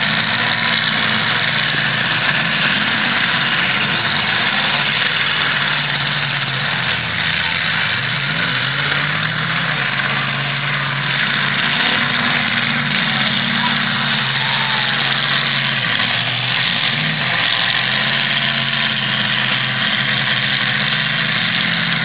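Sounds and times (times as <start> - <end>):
car engine revving: 0.0 - 22.0
car engines running: 0.0 - 22.0
steady noisy din: 0.0 - 22.0.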